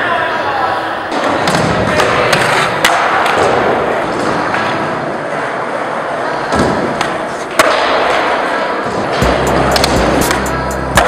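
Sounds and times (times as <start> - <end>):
skateboard wheels rolling on concrete: 0.8 - 11.0
skateboard clacks: 1.2 - 11.0.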